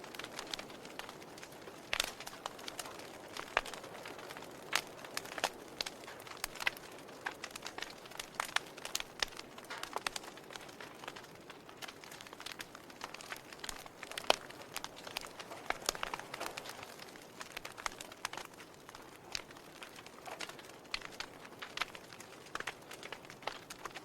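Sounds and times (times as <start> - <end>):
hiss of burning wood: 0.0 - 24.0
log fire crackling and popping: 0.0 - 24.0.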